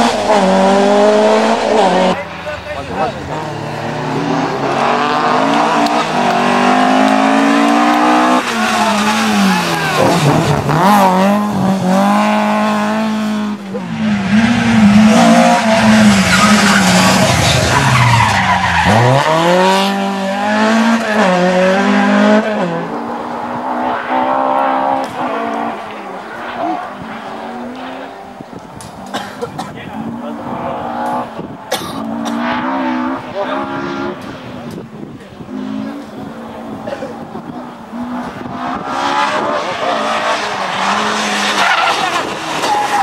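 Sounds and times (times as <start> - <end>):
rally car engine revving: 0.0 - 43.0
tyre noise: 0.0 - 43.0.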